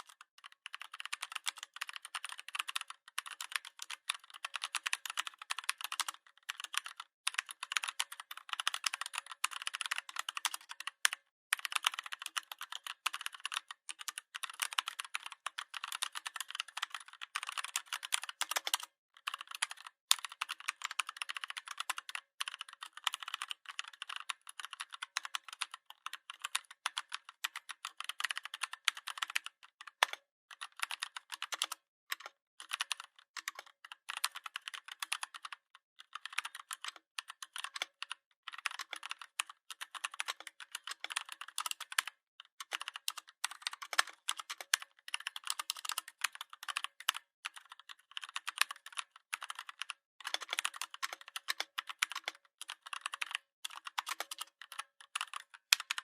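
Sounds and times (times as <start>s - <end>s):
computer keyboard typing: 0.0s - 56.0s.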